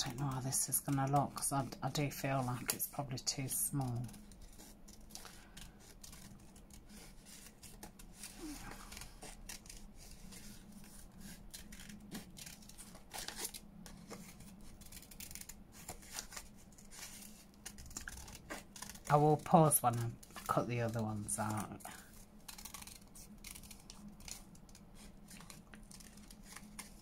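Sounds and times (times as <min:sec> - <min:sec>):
scissors snipping paper: 0:00.0 - 0:27.0.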